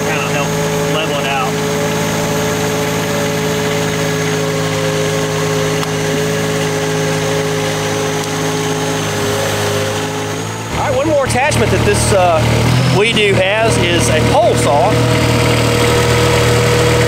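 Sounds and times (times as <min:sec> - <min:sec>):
boat engine running steadily: 0:00.0 - 0:17.0.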